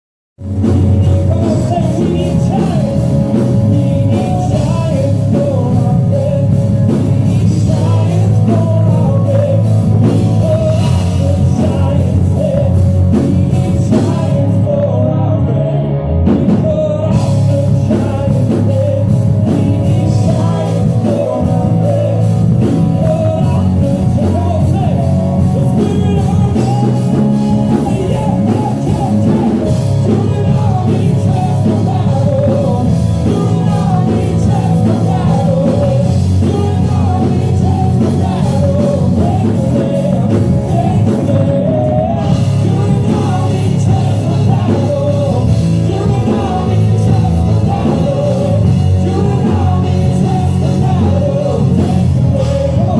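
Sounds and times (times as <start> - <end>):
drum kit: 0.4 - 52.9
person singing: 0.4 - 52.9
rock music: 0.4 - 52.9.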